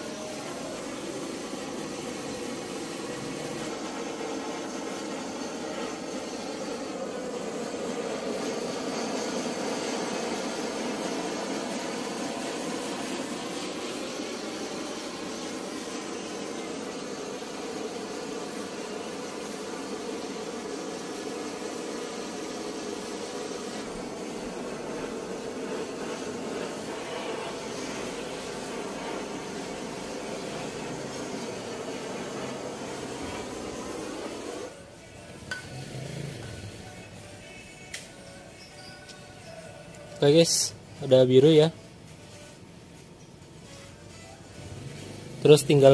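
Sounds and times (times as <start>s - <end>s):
gas torch flame hissing: 0.0s - 42.6s, 44.0s - 45.9s.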